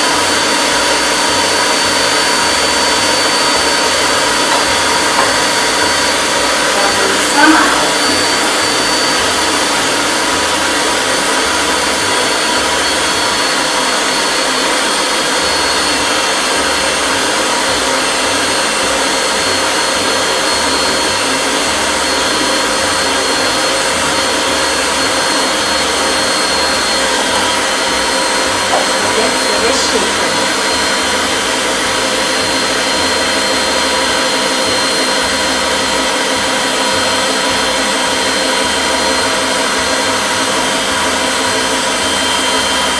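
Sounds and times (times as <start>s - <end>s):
electric stand mixer running: 0.0s - 42.9s.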